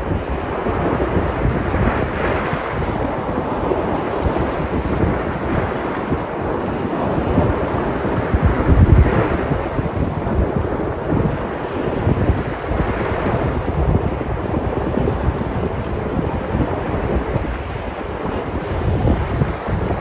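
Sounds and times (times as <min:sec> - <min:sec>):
sea surf breaking on shore: 0:00.0 - 0:20.0
wind buffeting microphone: 0:00.0 - 0:20.0.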